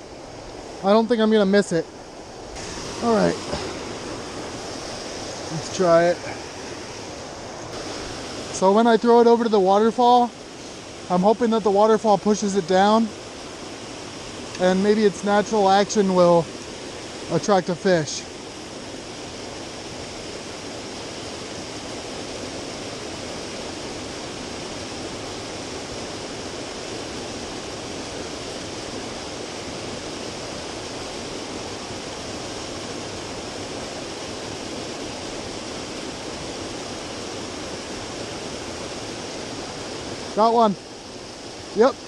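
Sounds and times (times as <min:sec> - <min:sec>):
waterfall: 0:00.0 - 0:42.0.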